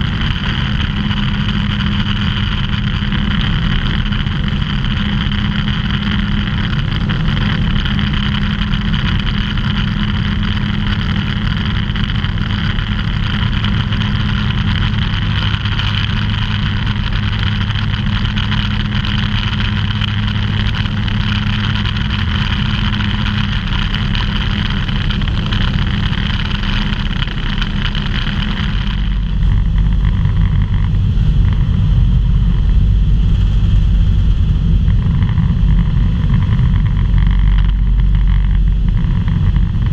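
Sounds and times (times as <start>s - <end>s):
aircraft engine and propeller droning: 0.0s - 39.9s
rushing airflow: 0.0s - 39.9s.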